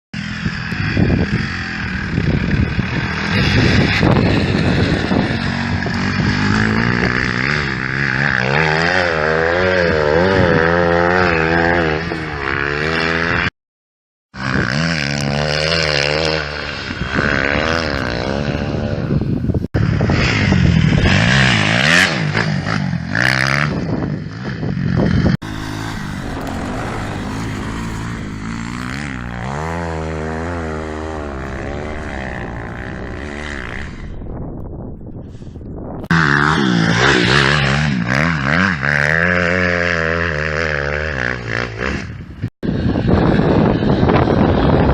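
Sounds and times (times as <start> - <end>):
motorcycle engine revving: 0.2 - 13.5, 19.8 - 35.2, 36.0 - 44.9.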